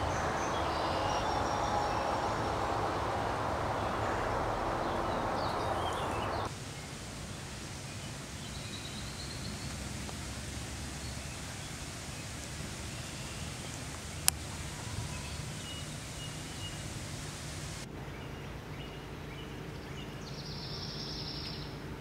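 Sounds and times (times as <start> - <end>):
faint high bird calls: 0.0 - 7.0, 11.0 - 21.8
steady rushing noise: 0.0 - 17.9.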